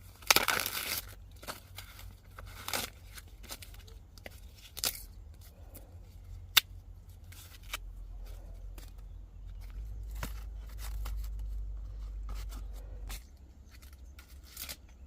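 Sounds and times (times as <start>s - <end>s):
dry material rustling and crunching: 0.0s - 15.0s.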